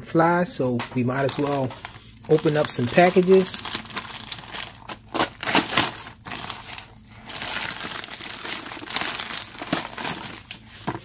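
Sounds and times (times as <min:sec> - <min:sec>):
plastic mailer crinkling: 0:01.0 - 0:11.0
padded package drawn out: 0:01.2 - 0:10.6.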